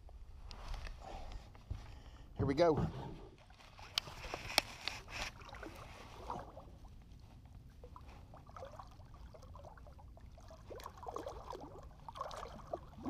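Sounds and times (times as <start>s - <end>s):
water sloshing and gurgling: 0.2s - 13.0s.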